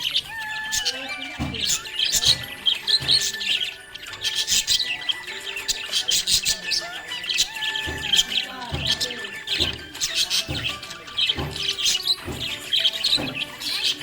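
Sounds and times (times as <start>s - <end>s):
budgerigar chirping and warbling: 0.0s - 14.0s
music with low beat: 0.9s - 14.0s.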